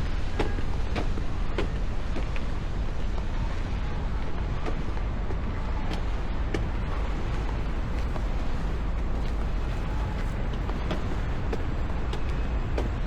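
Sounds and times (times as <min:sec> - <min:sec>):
footsteps clicking: 0:00.0 - 0:13.0
low street rumble: 0:00.0 - 0:13.0
wind buffeting microphone: 0:00.0 - 0:13.0.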